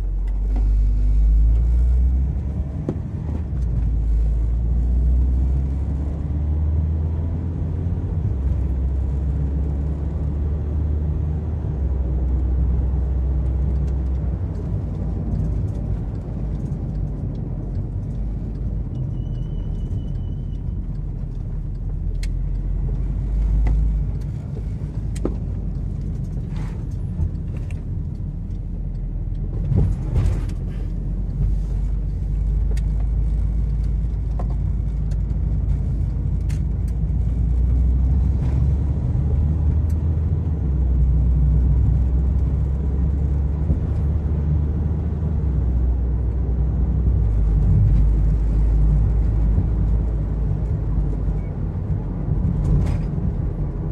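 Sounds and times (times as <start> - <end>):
vehicle engine and road noise: 0.0 - 53.9.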